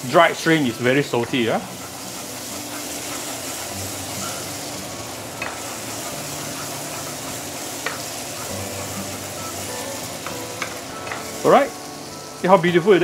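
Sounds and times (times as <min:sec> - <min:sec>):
paste sizzling in oil: 0:00.0 - 0:13.0
wooden spatula scraping pan: 0:00.4 - 0:11.5.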